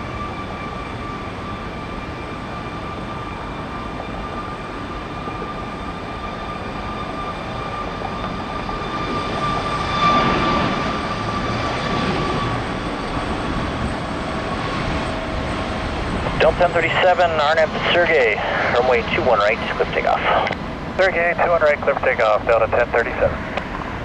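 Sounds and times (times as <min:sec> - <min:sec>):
jet aircraft passing: 0:00.0 - 0:24.0.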